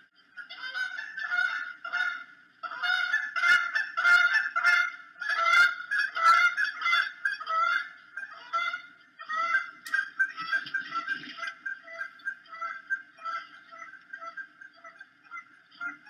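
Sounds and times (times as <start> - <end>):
eagle chirping calls: 0.4 - 16.0.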